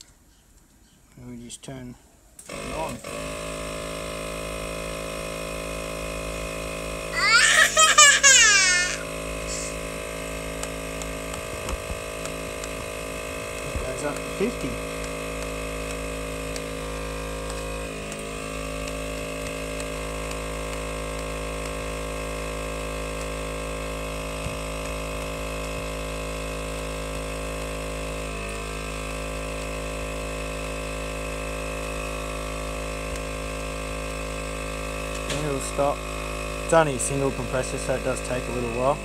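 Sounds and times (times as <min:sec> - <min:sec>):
air compressor running: 0:02.4 - 0:39.0.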